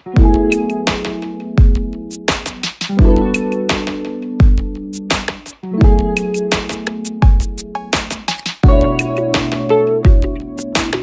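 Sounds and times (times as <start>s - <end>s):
music with sustained chords: 0.0s - 11.0s.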